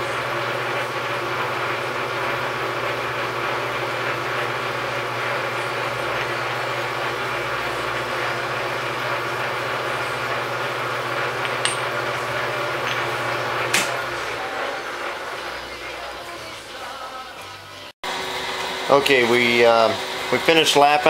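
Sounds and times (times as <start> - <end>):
metal lathe humming: 0.0 - 16.7, 18.0 - 21.0.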